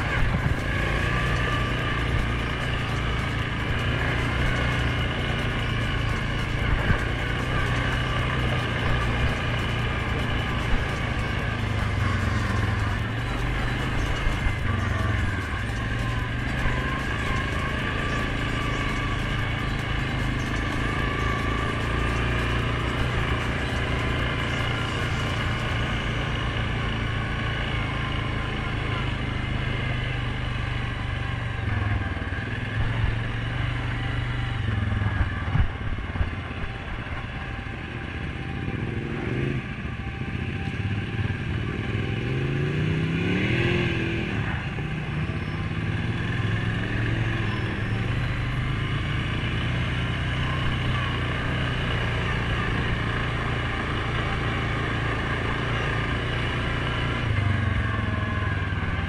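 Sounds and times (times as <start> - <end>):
atv engine running: 0.0 - 59.0
passing vehicle engine: 0.0 - 59.0.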